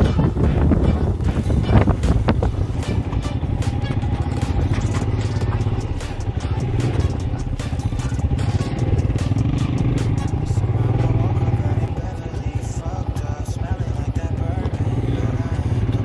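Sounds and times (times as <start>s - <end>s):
motorcycle engine running: 0.0s - 16.0s
motorcycle rattling over bumps: 0.0s - 16.0s.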